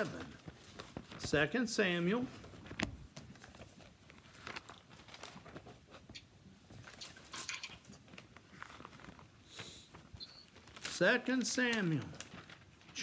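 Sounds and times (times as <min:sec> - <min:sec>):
thin pages turning: 0:00.0 - 0:01.5, 0:02.2 - 0:06.1, 0:06.7 - 0:13.0.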